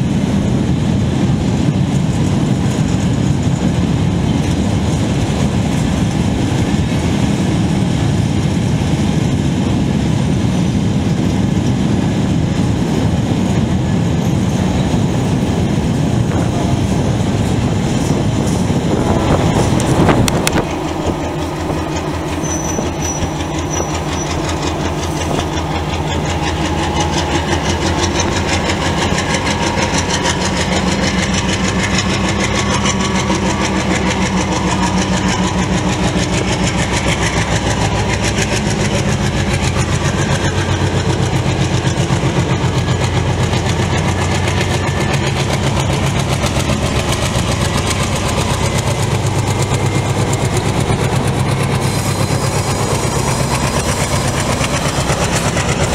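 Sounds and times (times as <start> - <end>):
diesel locomotive engine throbbing: 0.0 - 55.9.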